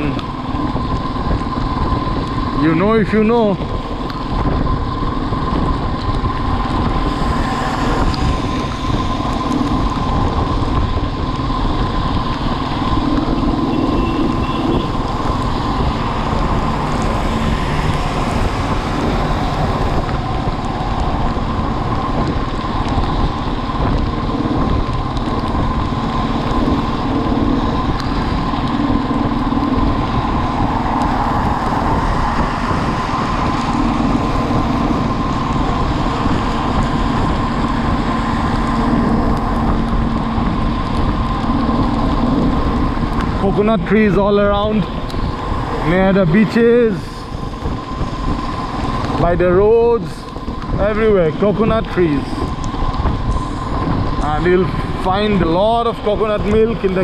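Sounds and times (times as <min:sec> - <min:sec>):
motorcycle riding: 0:00.0 - 0:57.0
steady whine: 0:00.0 - 0:57.0
wind rushing over microphone: 0:00.0 - 0:57.0.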